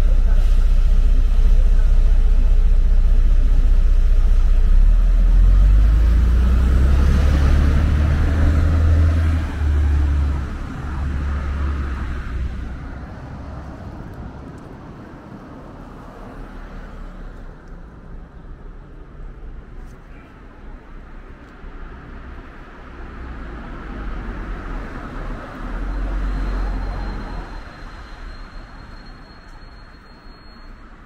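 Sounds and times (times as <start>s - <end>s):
bus engine rumbling: 0.0s - 31.0s
street traffic: 0.0s - 31.0s.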